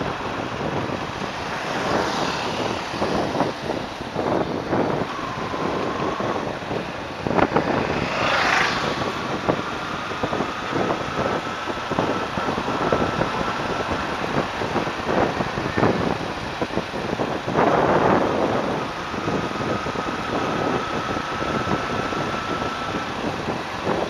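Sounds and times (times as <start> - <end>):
faint steady whine: 0.0 - 24.0
motorcycle engine: 0.0 - 24.0
wind buffeting microphone: 0.0 - 24.0.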